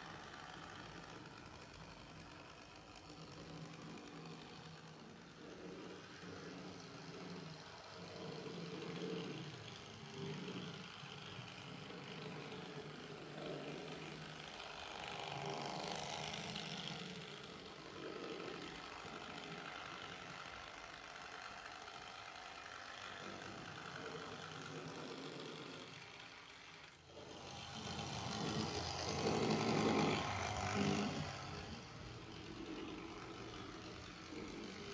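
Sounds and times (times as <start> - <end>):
model train motor hum: 0.0 - 34.9
wheels rolling on rails: 0.0 - 34.9.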